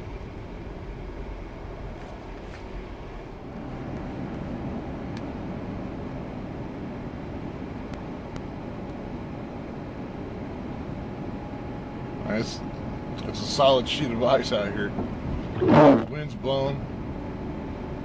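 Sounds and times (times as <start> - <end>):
car engine rumble: 0.0 - 18.0
tyres on snowy road: 0.0 - 18.0.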